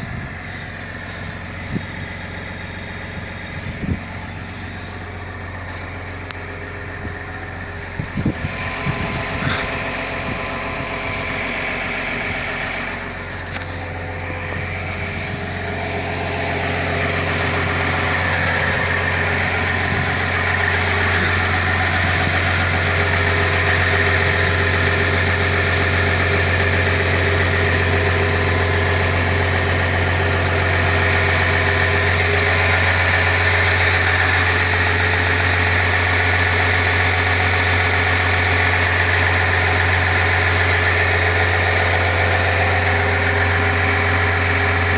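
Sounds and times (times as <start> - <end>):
diesel excavator engine humming: 0.0 - 44.9.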